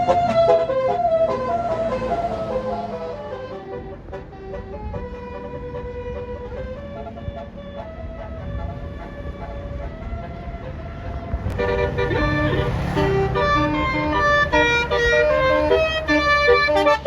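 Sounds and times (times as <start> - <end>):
bus engine running: 0.0 - 17.0
bus horn playing a tune: 0.0 - 17.0.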